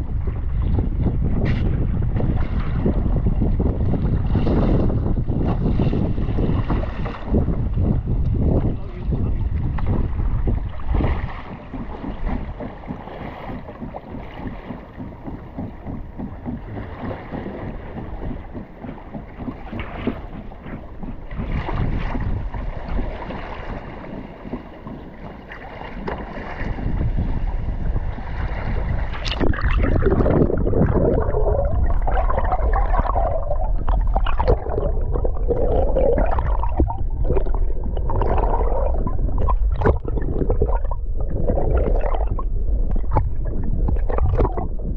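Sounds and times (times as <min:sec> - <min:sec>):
water sloshing and gurgling: 0:00.0 - 0:44.9
wind on microphone: 0:00.0 - 0:44.9.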